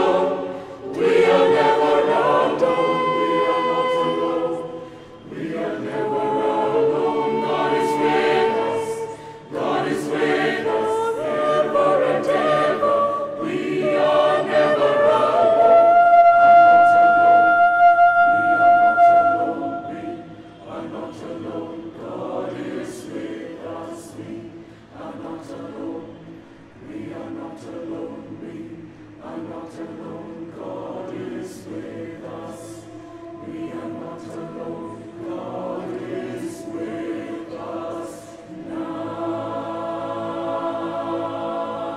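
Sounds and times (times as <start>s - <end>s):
mixed choir singing unaccompanied: 0.0s - 41.9s.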